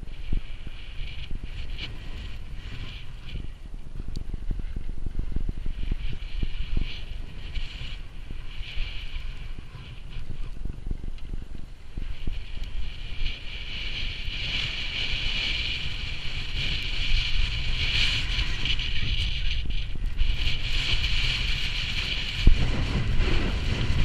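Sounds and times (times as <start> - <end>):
skis scraping over snow: 0.0 - 24.0
wind buffeting microphone: 0.0 - 24.0.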